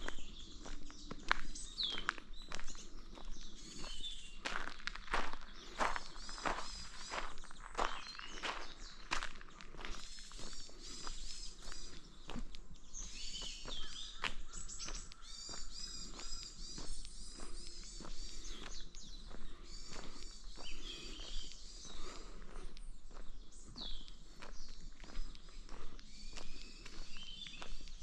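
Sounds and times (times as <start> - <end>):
footsteps on forest path: 0.0 - 28.0
songbirds singing: 0.0 - 28.0.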